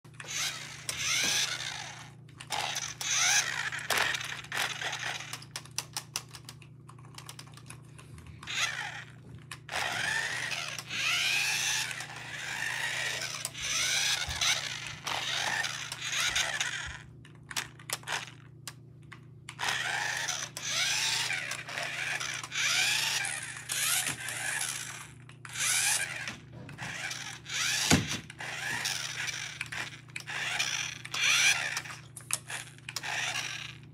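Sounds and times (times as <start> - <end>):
toy car motor whirring: 0.1 - 6.5, 7.1 - 7.8, 8.4 - 18.4, 19.5 - 33.9.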